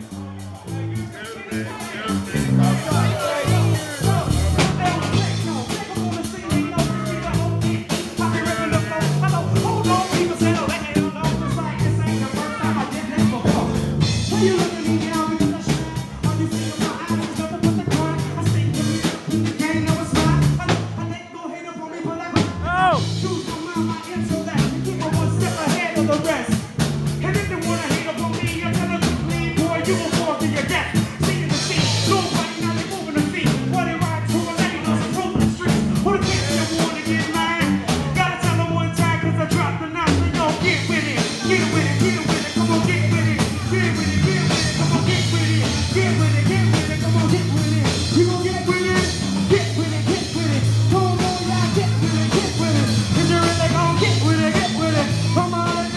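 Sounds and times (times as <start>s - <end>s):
loud rock music with singer: 0.0s - 55.9s.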